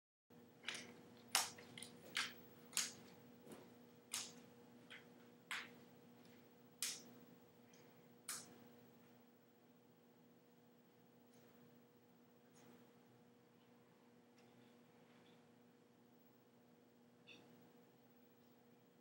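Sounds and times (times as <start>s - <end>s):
faint steady hum: 0.3s - 19.0s.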